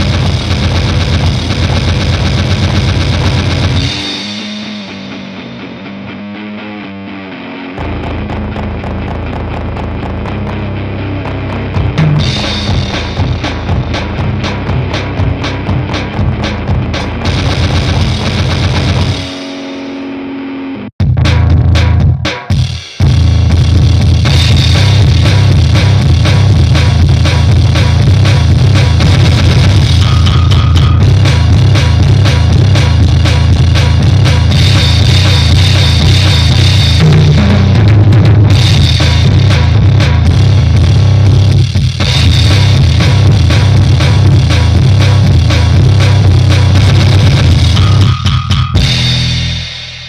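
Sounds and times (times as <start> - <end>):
fast dense drumming: 0.0 - 5.6, 7.8 - 19.4, 21.0 - 50.0
distorted guitar and bass: 0.0 - 50.0.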